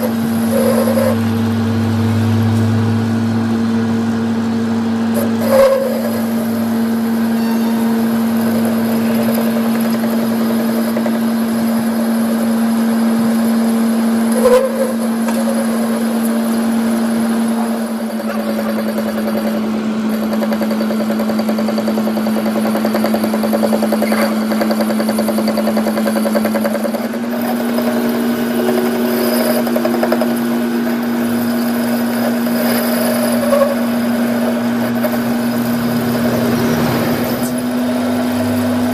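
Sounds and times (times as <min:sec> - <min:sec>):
machine motor humming: 0:00.0 - 0:38.9.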